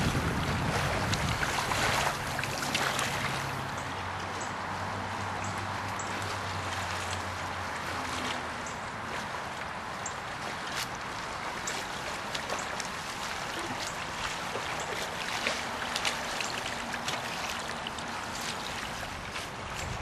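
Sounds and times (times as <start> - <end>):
river water rushing: 0.0 - 20.0
water splashes and drips: 0.0 - 20.0.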